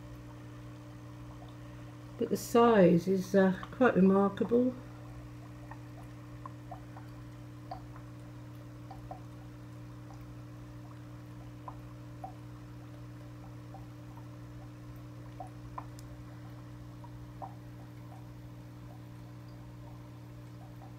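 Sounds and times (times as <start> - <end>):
steady low hum: 0.0 - 20.9
water dripping plinks: 1.0 - 20.9.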